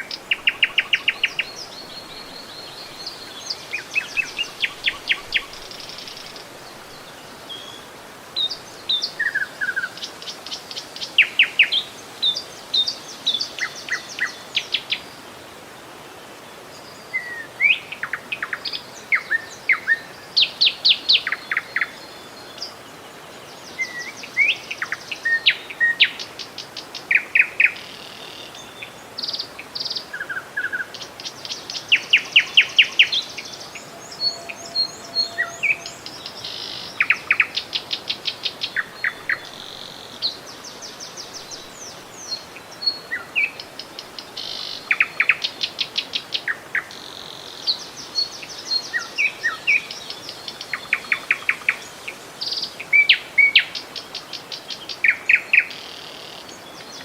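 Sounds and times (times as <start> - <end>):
songbirds singing and calling: 0.0 - 57.0
steady hiss: 0.0 - 57.0.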